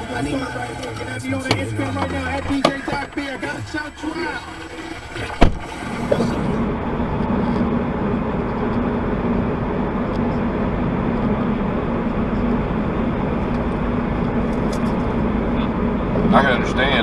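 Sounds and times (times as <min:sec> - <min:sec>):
car road and engine noise: 0:00.0 - 0:17.0
constant low hum: 0:00.0 - 0:17.0.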